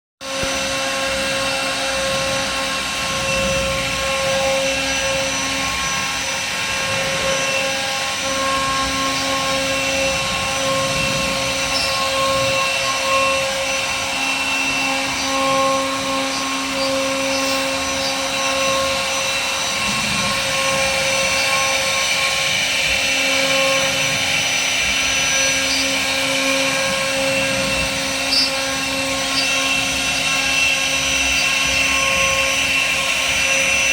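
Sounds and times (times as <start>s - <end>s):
router bit carving wood: 0.2s - 33.9s
router spindle whining: 0.2s - 33.9s.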